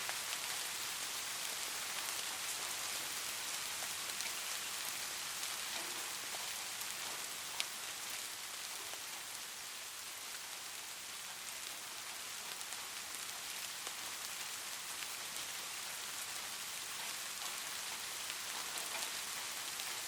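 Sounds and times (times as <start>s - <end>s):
light rain falling: 0.0s - 20.0s.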